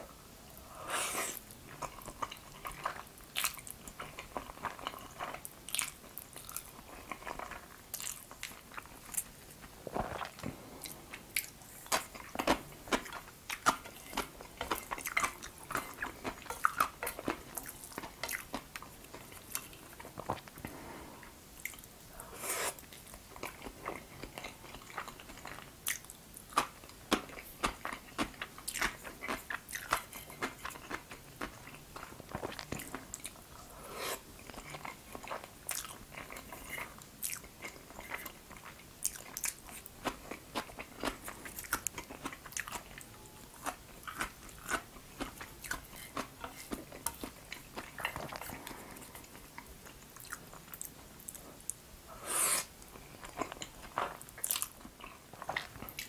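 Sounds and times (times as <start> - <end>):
chewing and crunching food: 1.0 - 51.8, 52.5 - 56.0.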